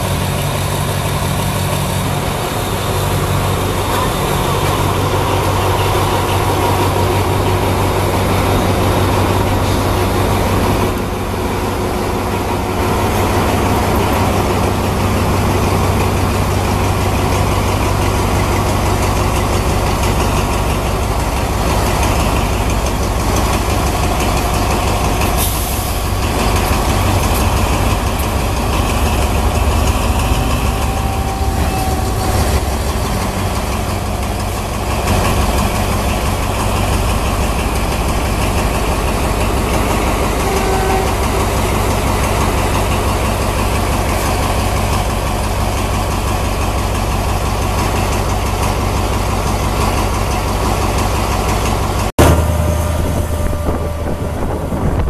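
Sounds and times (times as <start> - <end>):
diesel locomotive idling: 0.0 - 55.0.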